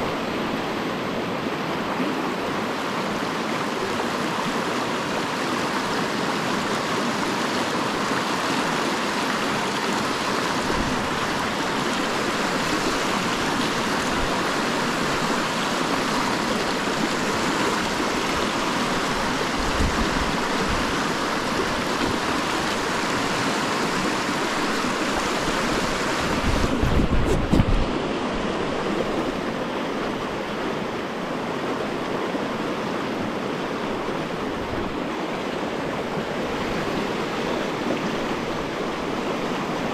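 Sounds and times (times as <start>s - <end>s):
river rapids rushing over rocks: 0.0s - 39.9s.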